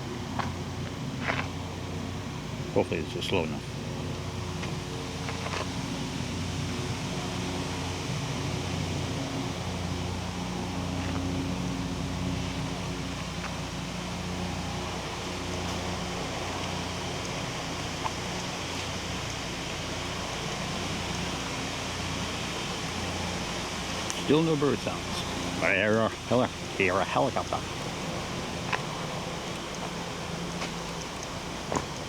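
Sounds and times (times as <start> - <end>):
distant helicopter droning: 0.0 - 32.0
wind hiss: 0.0 - 32.0.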